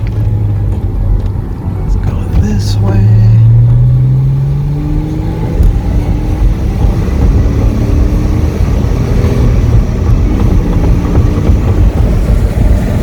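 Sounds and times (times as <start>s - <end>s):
car engine under throttle: 0.0s - 13.0s
road rumble: 0.0s - 13.0s.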